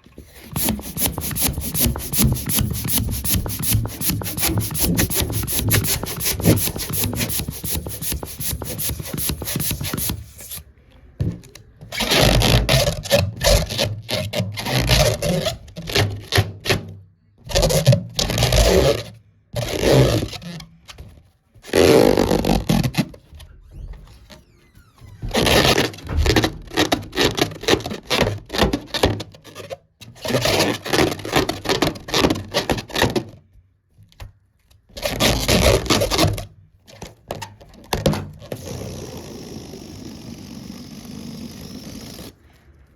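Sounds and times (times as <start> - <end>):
balloons rubbing and scraping: 0.0 - 10.7, 11.8 - 16.9, 17.5 - 33.3, 35.0 - 40.3.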